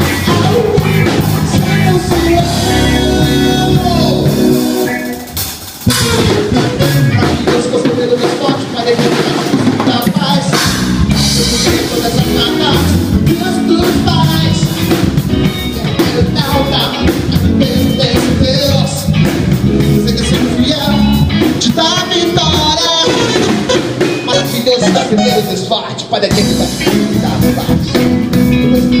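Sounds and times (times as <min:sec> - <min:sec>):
band playing: 0:00.0 - 0:29.0
lead singer: 0:00.0 - 0:29.0.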